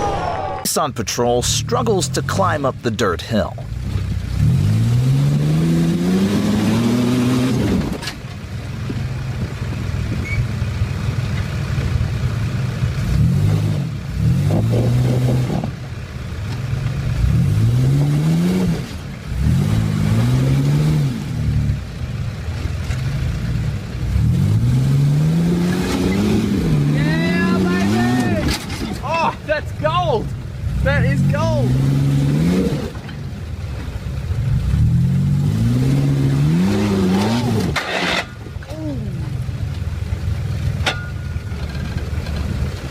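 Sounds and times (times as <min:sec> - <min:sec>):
off-road vehicle engine revving: 0:00.8 - 0:42.9.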